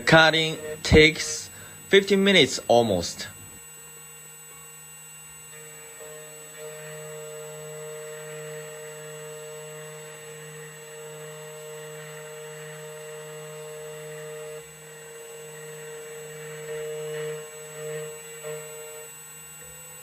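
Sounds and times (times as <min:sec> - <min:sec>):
key cutting machine whirring: 0:00.0 - 0:20.0.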